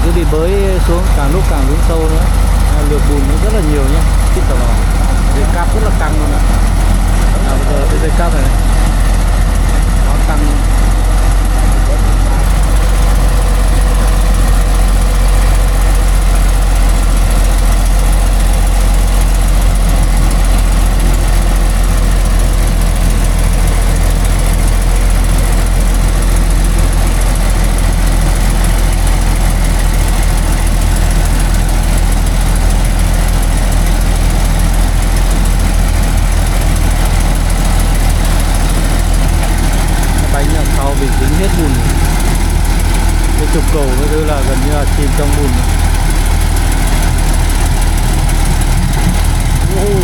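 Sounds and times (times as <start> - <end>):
truck engine droning: 0.0 - 50.0.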